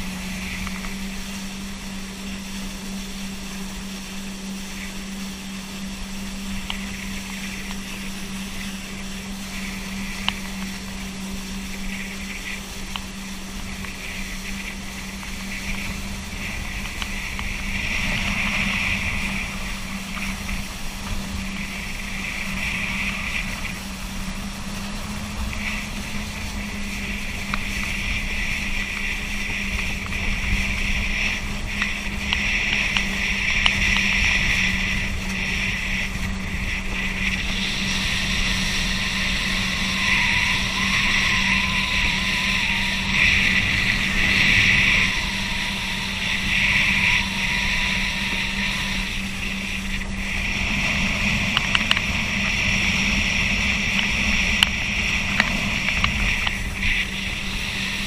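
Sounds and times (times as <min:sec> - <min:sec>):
boat engine drone: 0:00.0 - 0:58.0
rushing spray: 0:00.0 - 0:58.0
wavering high whine: 0:00.0 - 0:58.0
wind on microphone: 0:00.0 - 0:58.0.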